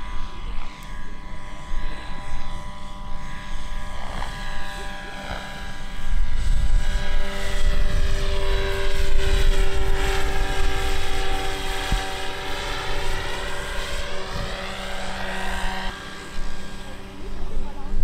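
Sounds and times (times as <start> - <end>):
model airplane motor whine: 0.0 - 18.0.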